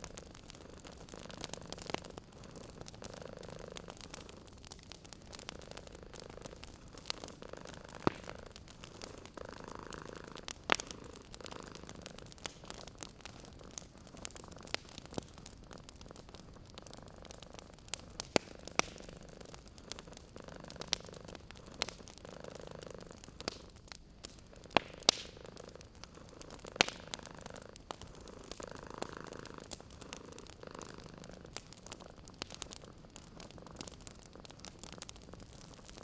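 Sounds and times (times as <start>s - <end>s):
cat purring: 0.0s - 36.0s
wood fire crackling and popping: 0.0s - 36.0s.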